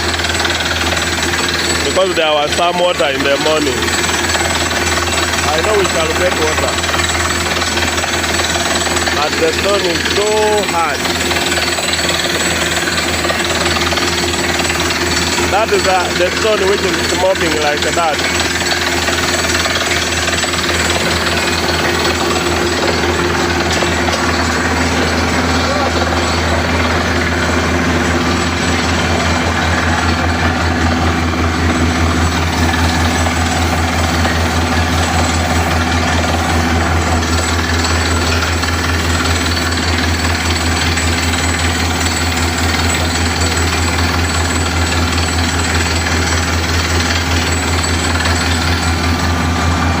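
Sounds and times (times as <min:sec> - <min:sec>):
drilling rig hammering rock: 0:00.0 - 0:50.0
rig engine drone: 0:00.0 - 0:50.0.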